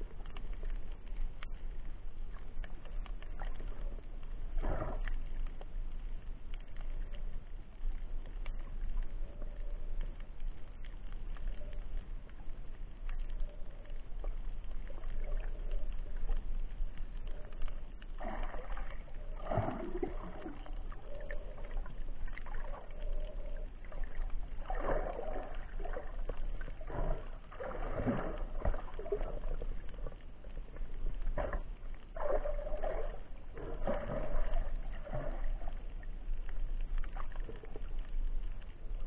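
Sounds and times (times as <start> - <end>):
muffled underwater water surges: 0.0 - 39.0
steady low hum: 0.0 - 39.0.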